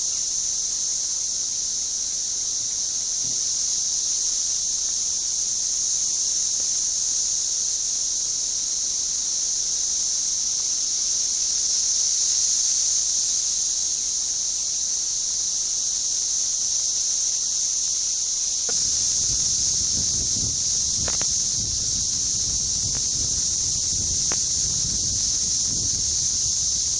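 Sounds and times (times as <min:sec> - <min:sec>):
cicadas buzzing drone: 0:00.0 - 0:26.9.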